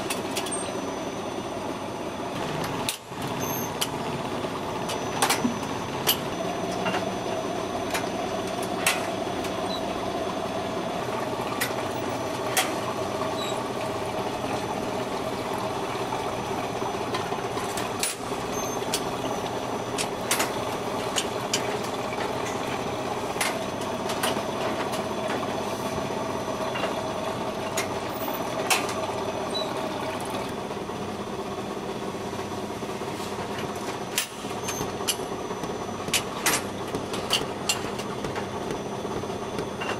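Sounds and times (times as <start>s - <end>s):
bread machine humming: 0.0s - 39.9s.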